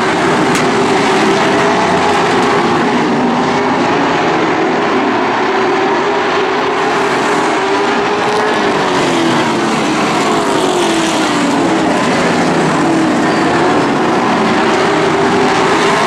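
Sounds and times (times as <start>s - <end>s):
race car engines roaring: 0.0s - 16.0s.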